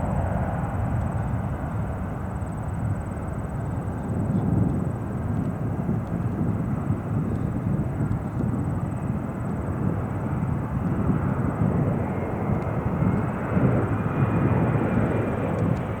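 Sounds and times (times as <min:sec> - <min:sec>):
faint jet whine: 0:00.0 - 0:16.0
jet engine rumble: 0:00.0 - 0:16.0.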